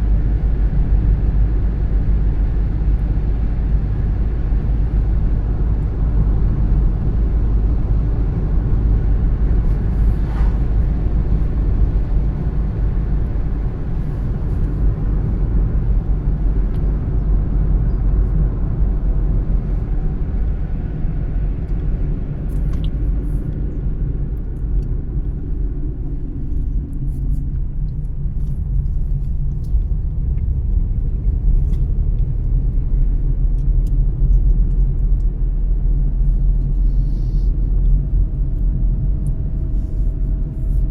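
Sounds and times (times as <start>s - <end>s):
car tyres and engine rumble: 0.0s - 40.9s.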